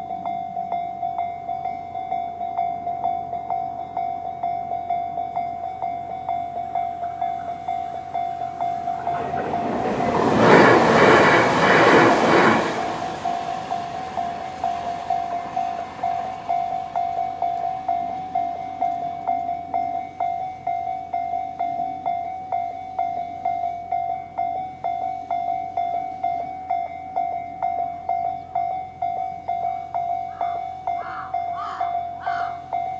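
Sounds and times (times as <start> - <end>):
electric train passing: 0.0 - 32.9
level crossing warning bell: 0.0 - 32.9.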